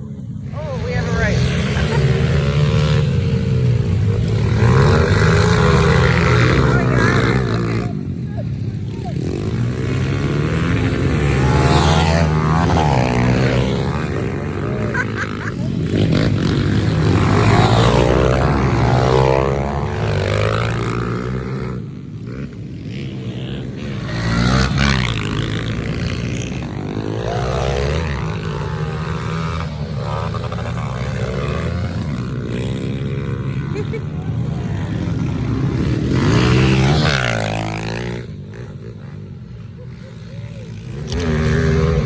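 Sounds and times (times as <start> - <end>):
pit bike engines revving: 0.0 - 42.0.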